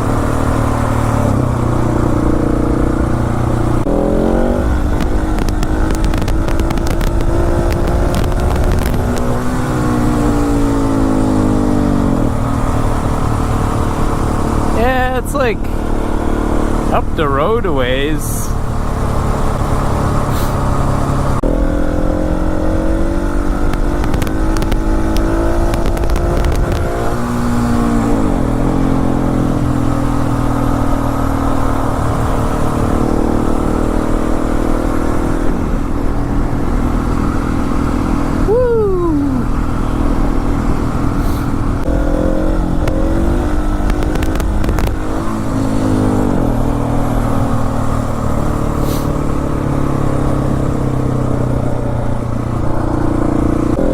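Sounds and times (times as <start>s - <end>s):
wind rumbling: 0.0s - 16.9s, 18.5s - 53.9s
motorcycle engine running: 0.0s - 53.9s
road noise: 0.0s - 53.9s.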